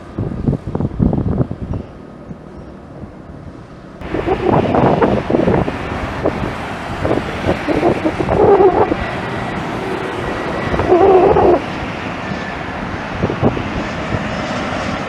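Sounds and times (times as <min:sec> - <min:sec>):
jet airliner noise: 0:00.0 - 0:15.0
wind buffeting microphone: 0:00.0 - 0:15.0.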